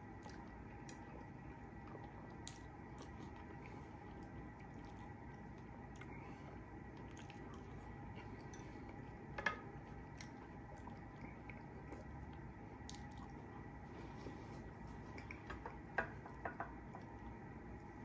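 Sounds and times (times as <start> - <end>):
chewing food: 0.0 - 18.0.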